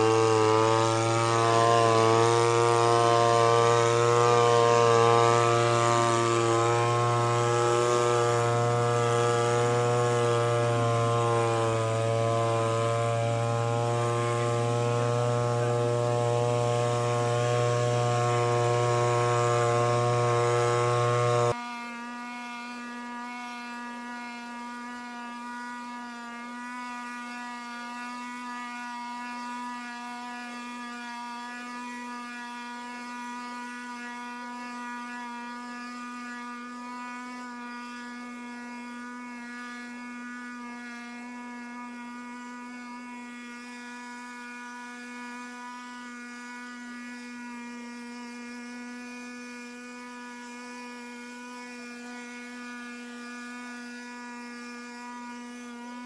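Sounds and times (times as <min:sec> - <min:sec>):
leaf blower engine running: 0:00.0 - 0:56.0.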